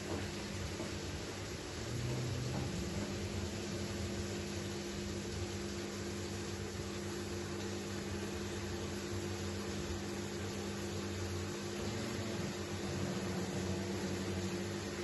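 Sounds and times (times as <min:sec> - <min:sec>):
constant hiss: 0:00.0 - 0:15.0
kitchen appliance humming: 0:00.0 - 0:15.0.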